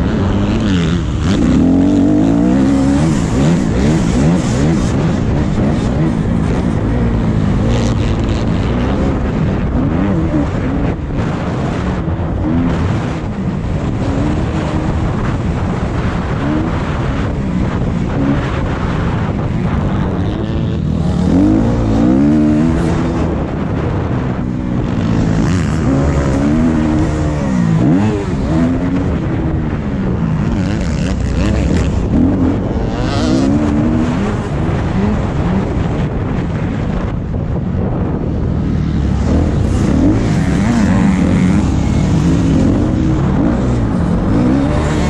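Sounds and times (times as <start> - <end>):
motorbike engine revving: 0.0 - 45.0.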